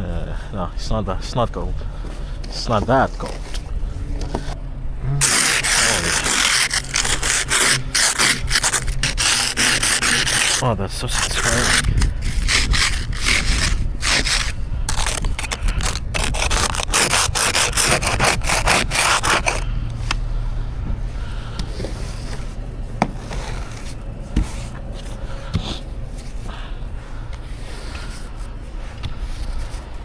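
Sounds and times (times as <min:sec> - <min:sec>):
snow brushed and scraped off car: 0:02.0 - 0:04.6, 0:05.2 - 0:20.2, 0:21.5 - 0:30.0.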